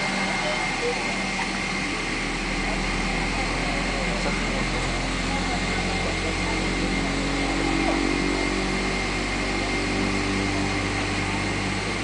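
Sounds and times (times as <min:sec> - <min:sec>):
airplane cabin engine drone: 0:00.0 - 0:12.0
high engine whine: 0:00.0 - 0:12.0.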